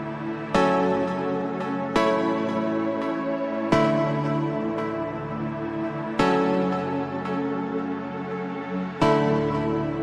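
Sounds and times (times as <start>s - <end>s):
instrumental music with held chords: 0.0s - 10.0s.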